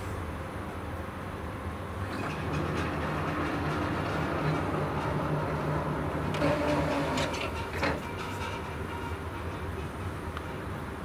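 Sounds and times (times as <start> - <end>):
barrier electric drives humming: 0.2 - 11.0.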